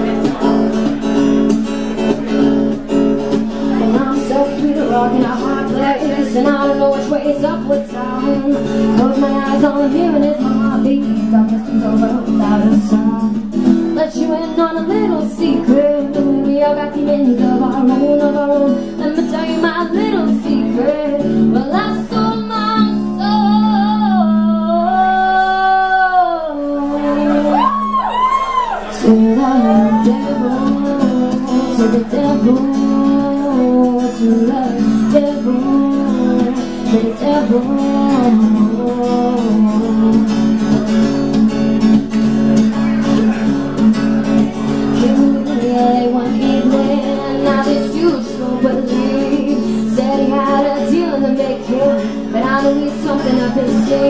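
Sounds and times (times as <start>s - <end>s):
acoustic guitar: 0.0s - 54.0s
woman singing: 3.2s - 41.5s, 44.7s - 54.0s.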